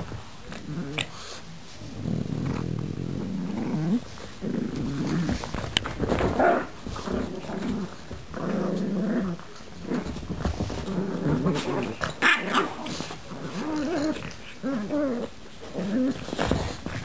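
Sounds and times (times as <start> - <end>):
dogs growling in play: 0.0 - 17.0.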